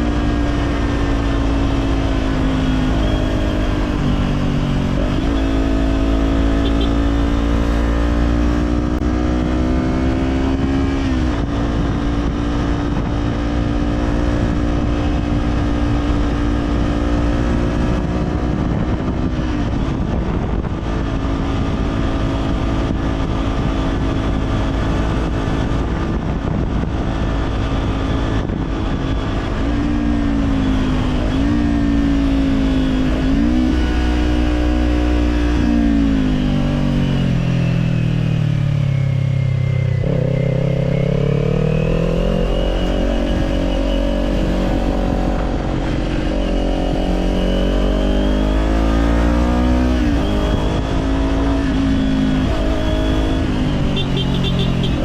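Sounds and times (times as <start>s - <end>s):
motorcycle engine: 0.0s - 55.0s
wind rush: 7.2s - 55.0s.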